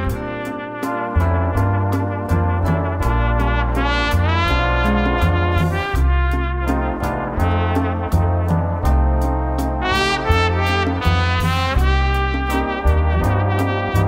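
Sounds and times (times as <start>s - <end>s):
bass line: 0.0s - 14.0s
trumpets and trombones: 0.0s - 14.0s.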